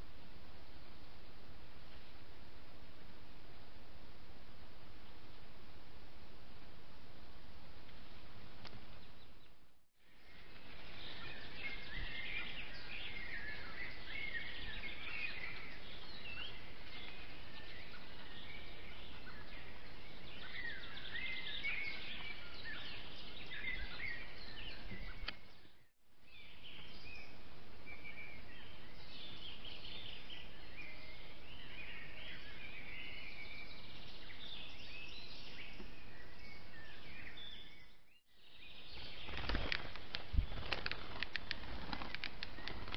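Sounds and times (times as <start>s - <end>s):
songbirds singing: 7.8s - 42.9s.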